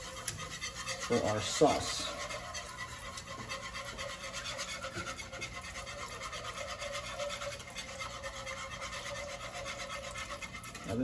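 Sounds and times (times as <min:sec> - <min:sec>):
whisk scraping a saucepan: 0:00.0 - 0:11.0.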